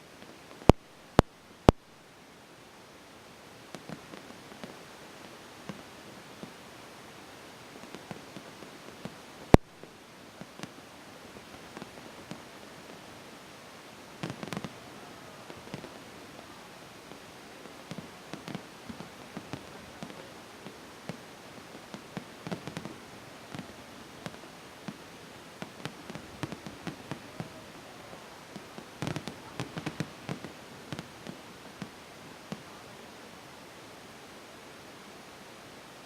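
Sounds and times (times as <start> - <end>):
steady hiss: 0.0 - 36.0
distant fireworks popping and banging: 0.2 - 1.9, 3.7 - 6.7, 7.7 - 13.2, 14.1 - 32.9.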